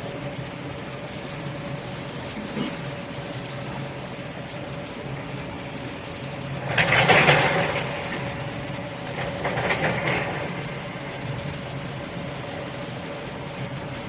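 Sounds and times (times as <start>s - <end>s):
dishwashing machine humming: 0.0s - 14.0s
loud rush of noise: 1.9s - 14.0s.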